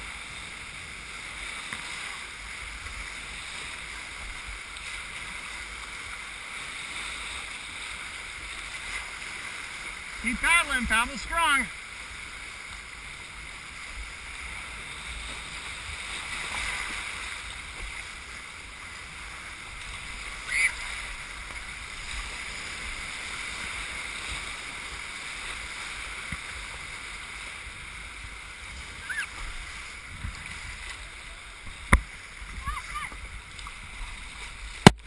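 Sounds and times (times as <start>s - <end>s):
whitewater rushing: 1.9s - 12.1s, 13.8s - 35.0s.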